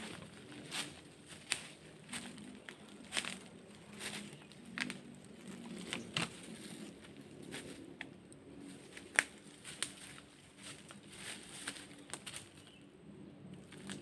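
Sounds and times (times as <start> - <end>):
crackling and crunching snaps: 0.0 - 12.6, 13.6 - 14.0
distant motorcycles droning: 0.0 - 14.0.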